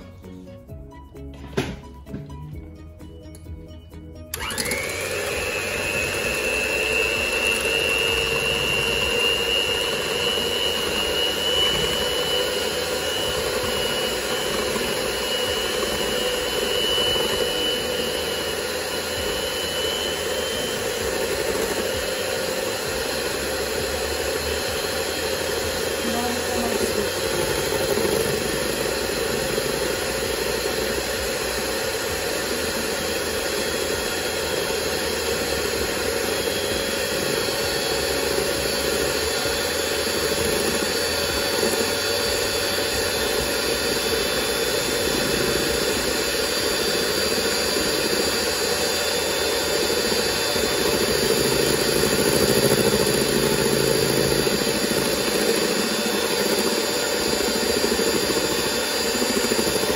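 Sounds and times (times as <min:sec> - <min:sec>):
electric hand mixer whipping cream: 0:04.3 - 0:59.9.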